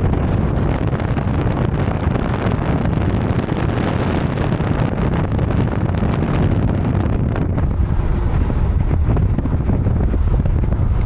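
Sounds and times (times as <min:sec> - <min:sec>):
road and vehicle noise: 0:00.0 - 0:11.0
wind buffeting microphone: 0:00.0 - 0:11.0.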